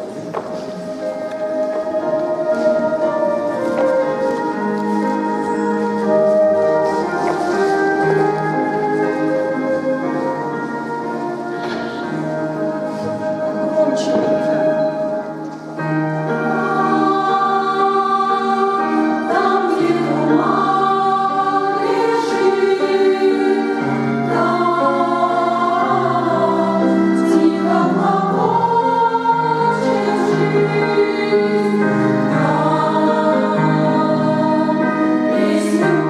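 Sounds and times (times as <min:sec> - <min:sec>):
church choir singing: 0:00.0 - 0:36.0.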